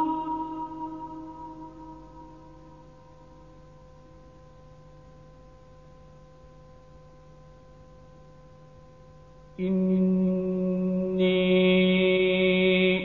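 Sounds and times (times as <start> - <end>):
faint hum of held tones: 0.0 - 13.0.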